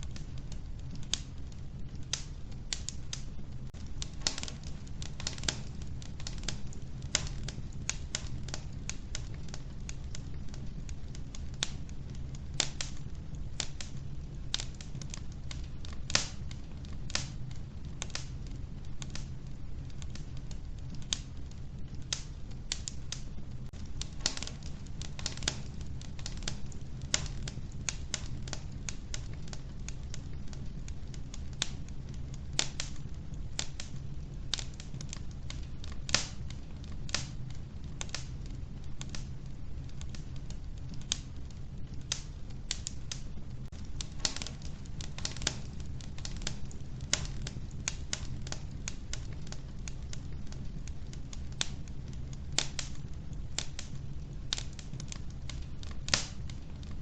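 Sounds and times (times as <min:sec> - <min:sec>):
wood fire crackling in stove: 0:00.0 - 0:57.0.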